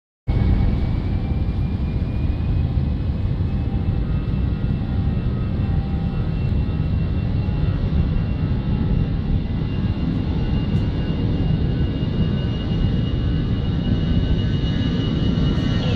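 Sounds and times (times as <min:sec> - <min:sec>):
jet engines rumbling: 0:00.3 - 0:15.9.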